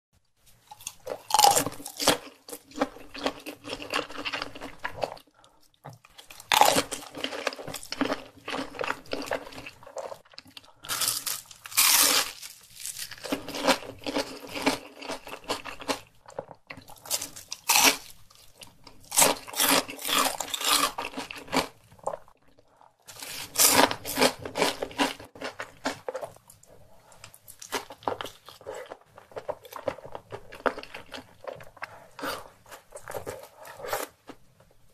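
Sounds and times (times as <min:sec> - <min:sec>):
chewing crispy fried food: 0:00.7 - 0:34.5.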